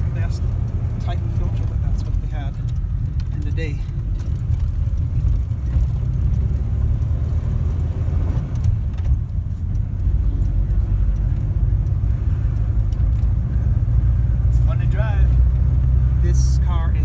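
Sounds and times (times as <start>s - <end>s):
car engine low rumble: 0.0s - 17.0s
road noise: 0.0s - 17.0s.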